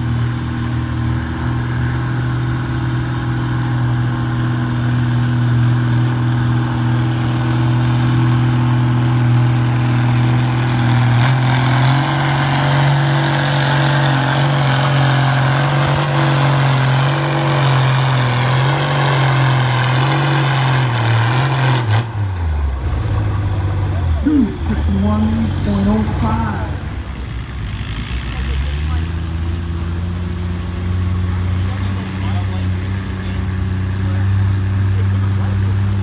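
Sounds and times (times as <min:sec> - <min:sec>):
tractor engine under load: 0:00.0 - 0:36.0.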